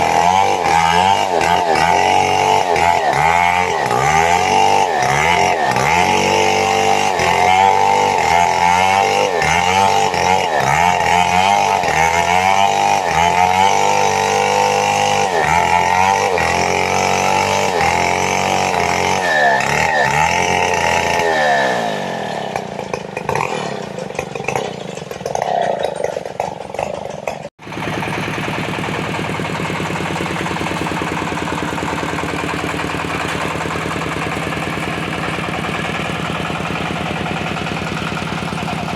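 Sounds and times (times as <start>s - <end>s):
chainsaw cutting wood: 0.0s - 38.9s
chainsaw engine revving: 0.0s - 38.9s
chainsaw idling: 0.0s - 38.9s.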